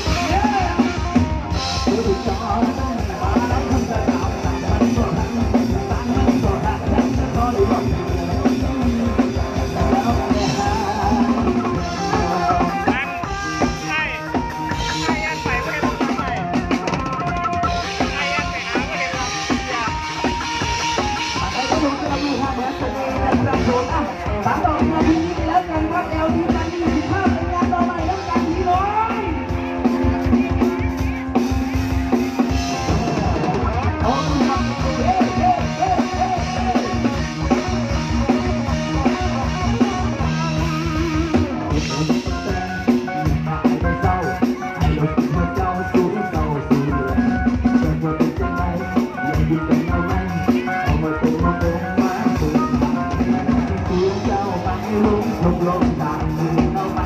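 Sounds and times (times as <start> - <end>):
drum kit: 0.0 - 57.0
guitar playing: 0.0 - 57.0.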